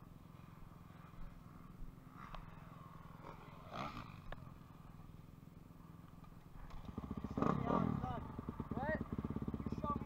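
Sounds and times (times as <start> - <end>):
distant dirt bike engines: 0.0 - 10.0.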